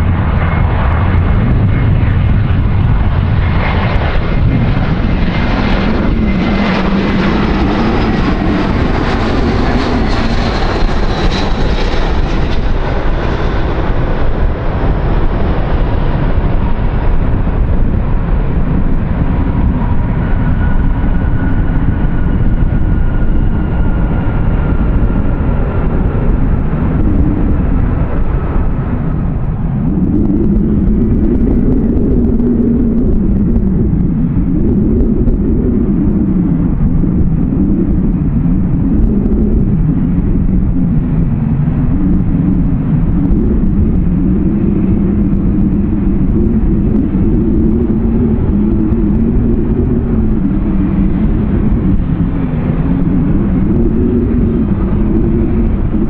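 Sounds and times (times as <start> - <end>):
jet engines rumbling and whining: 0.0 - 56.0.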